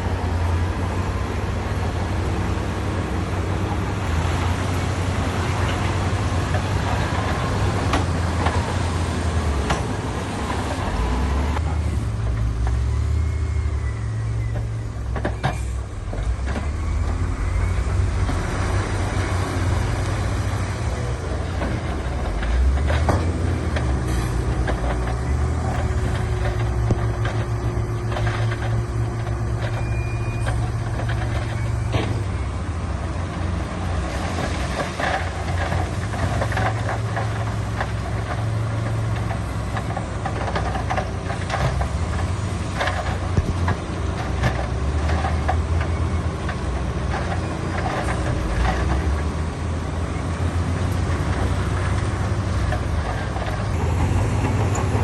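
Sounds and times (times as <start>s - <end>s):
heavy machinery engines rumbling: 0.0s - 55.0s.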